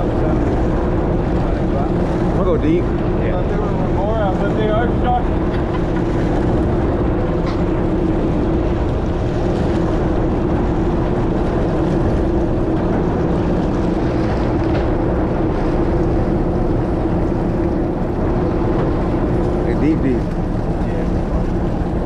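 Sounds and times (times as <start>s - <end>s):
boat engines droning: 0.0s - 22.0s.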